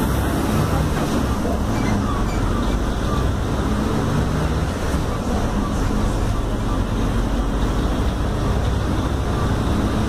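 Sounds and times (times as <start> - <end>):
bus engine drone: 0.0 - 10.0
road and tyre noise: 0.0 - 10.0.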